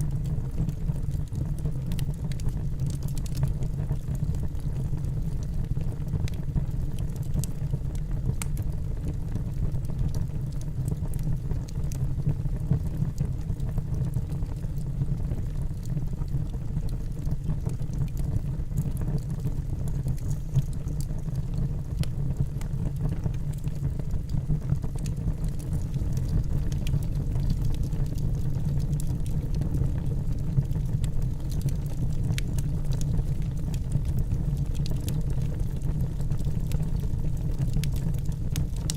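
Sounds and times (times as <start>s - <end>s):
wood fire rumbling: 0.0s - 38.9s.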